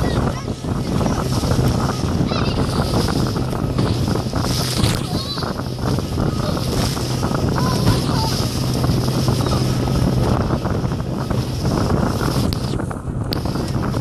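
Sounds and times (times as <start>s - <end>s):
hull splashing through waves: 0.0s - 14.0s
outboard motor drone: 0.0s - 14.0s
wind noise on microphone: 0.0s - 14.0s.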